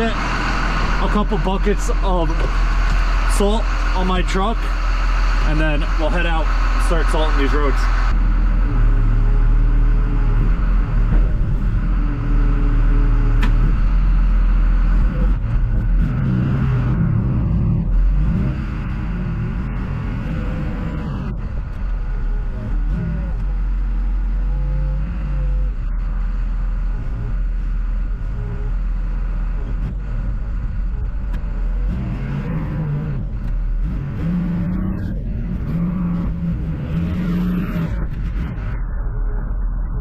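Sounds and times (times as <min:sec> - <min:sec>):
heavy vehicle engine revving: 0:00.0 - 0:40.0.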